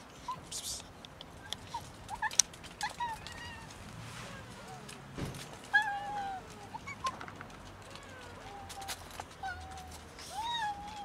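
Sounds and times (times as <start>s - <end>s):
cats meowing: 1.5s - 11.0s.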